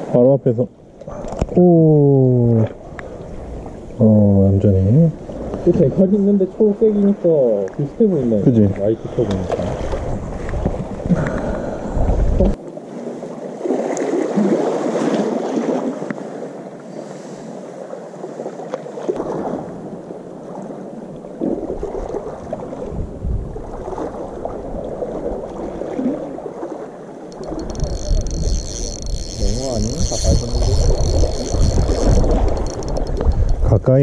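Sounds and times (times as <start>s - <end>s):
sea water lapping against edge: 5.2s - 33.9s.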